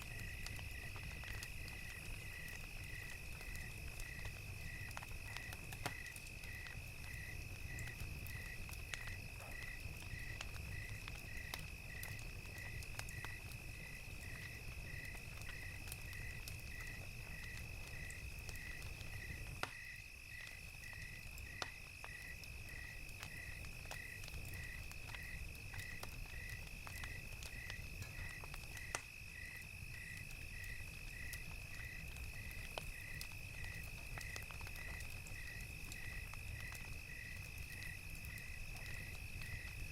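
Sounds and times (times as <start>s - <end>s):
crickets chirping: 0.0s - 39.9s
fire crackling and popping: 0.0s - 39.9s.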